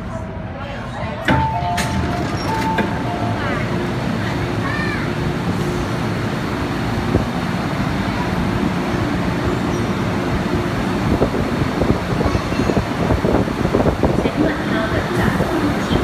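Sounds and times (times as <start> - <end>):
train hum and rumble: 0.0 - 16.0.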